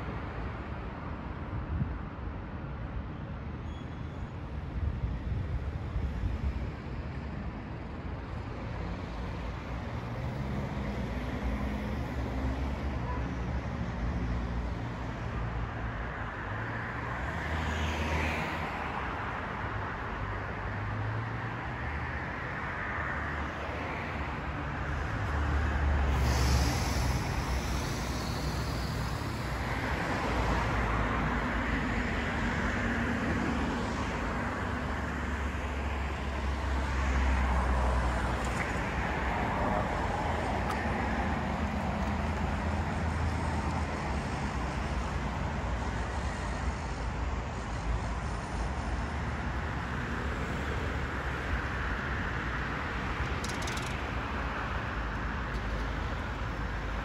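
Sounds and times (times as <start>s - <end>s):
cars passing on a street: 0.0s - 57.0s.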